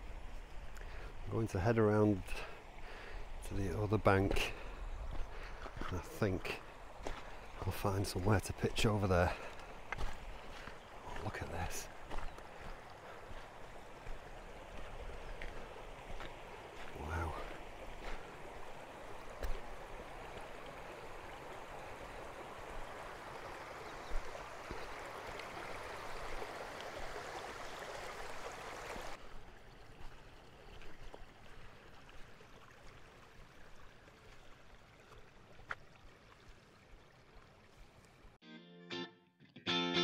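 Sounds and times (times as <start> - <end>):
stream babbling over stones: 0.0 - 38.3.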